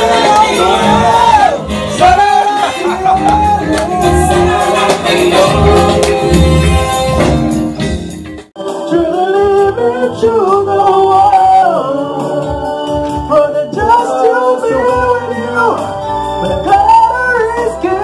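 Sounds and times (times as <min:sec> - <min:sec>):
man singing into microphone: 0:00.0 - 0:06.3, 0:08.6 - 0:18.0
backing music with heavy bass: 0:00.0 - 0:18.0.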